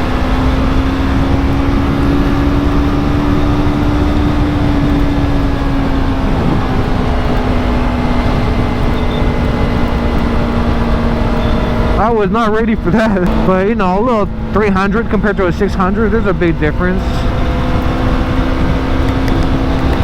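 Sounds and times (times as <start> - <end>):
motorcycle engine at high revs: 0.0 - 20.0
wind rush on microphone: 0.0 - 20.0.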